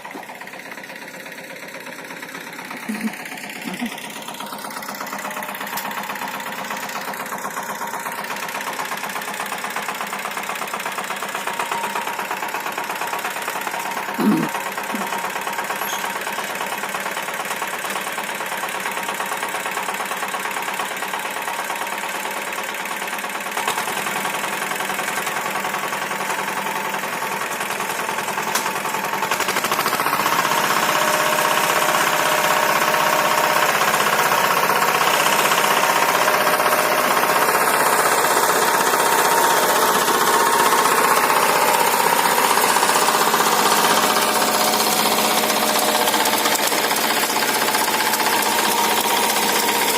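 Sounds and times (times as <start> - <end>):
tiller engine knocking: 0.0 - 49.9.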